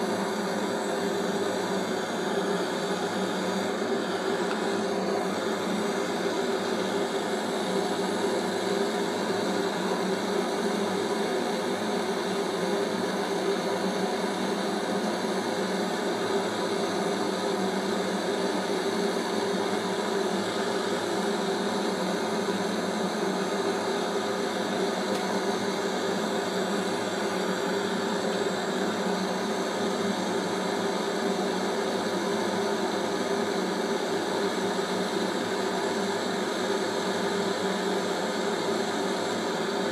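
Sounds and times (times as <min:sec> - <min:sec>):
gas torch flame burning: 0:00.0 - 0:39.9.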